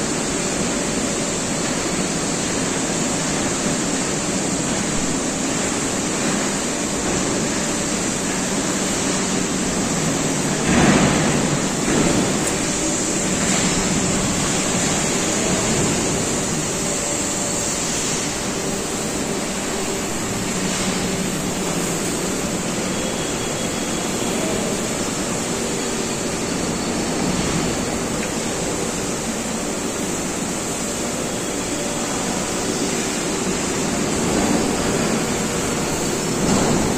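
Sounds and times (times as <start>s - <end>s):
dense industrial hiss: 0.0s - 36.9s
faint machine hum: 0.0s - 36.9s.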